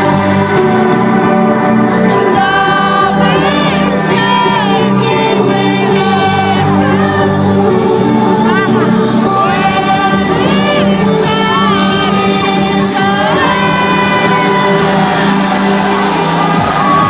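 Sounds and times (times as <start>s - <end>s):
person singing: 0.0s - 17.0s
trance synth chords: 0.0s - 17.0s.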